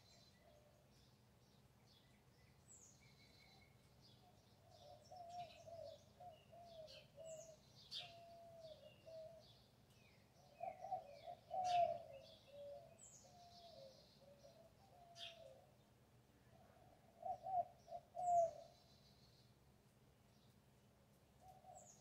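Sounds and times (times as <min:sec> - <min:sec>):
birds singing and calling: 0:00.0 - 0:15.9, 0:16.9 - 0:19.5, 0:21.4 - 0:22.0.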